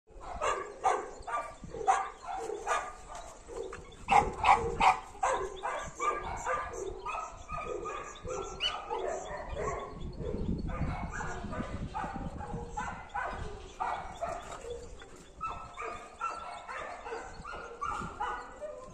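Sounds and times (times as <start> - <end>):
dogs barking: 0.1 - 18.9.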